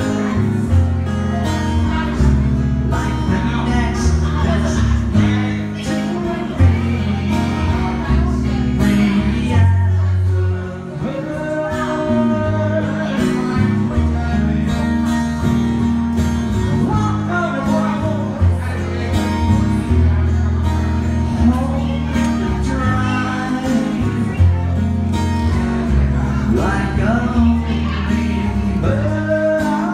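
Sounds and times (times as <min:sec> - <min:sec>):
man singing: 0:00.0 - 0:15.6, 0:16.5 - 0:29.9
acoustic guitar strummed: 0:00.0 - 0:29.9.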